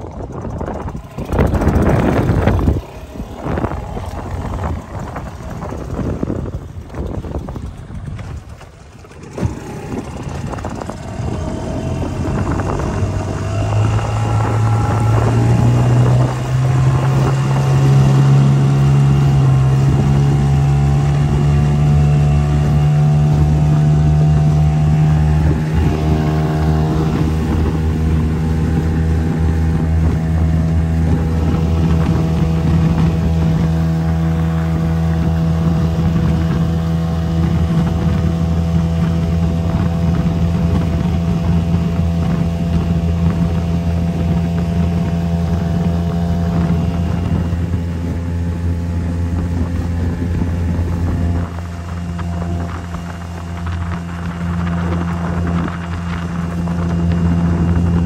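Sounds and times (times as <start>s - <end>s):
motorboat engine speeding up: 0.0s - 58.0s.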